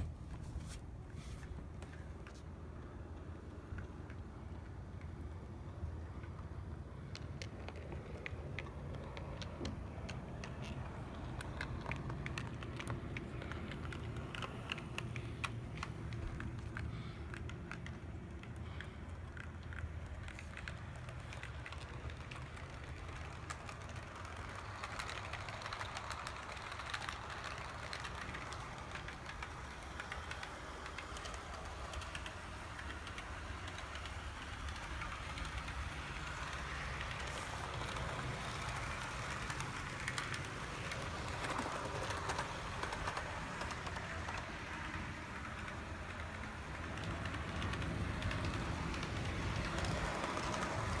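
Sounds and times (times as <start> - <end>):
wheels clicking on rails: 0.0 - 51.0
model train motor whirring: 7.1 - 51.0.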